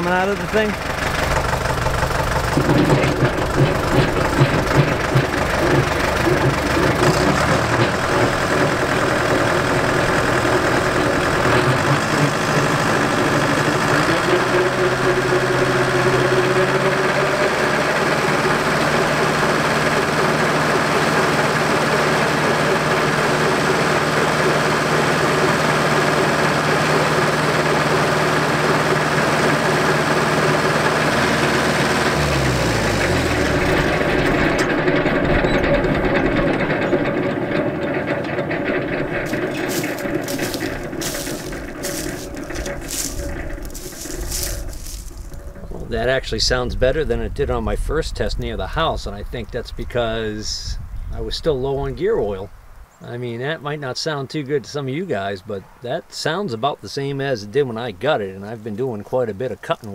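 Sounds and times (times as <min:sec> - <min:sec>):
tractor driving rotary cutter: 0:00.0 - 0:50.8.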